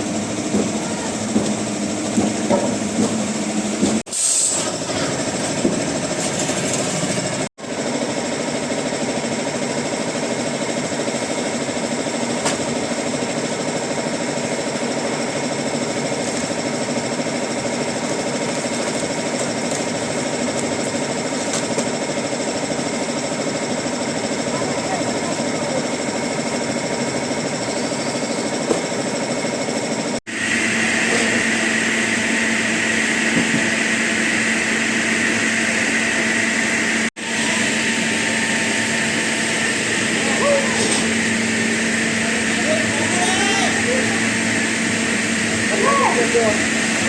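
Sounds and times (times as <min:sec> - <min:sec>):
wood-processing machinery drone: 0:00.0 - 0:47.0.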